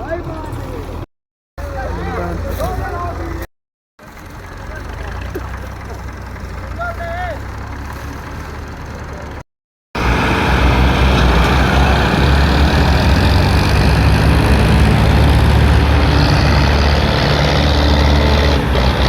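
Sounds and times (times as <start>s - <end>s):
tractor engine rumbling: 0.0s - 9.4s, 10.0s - 19.0s.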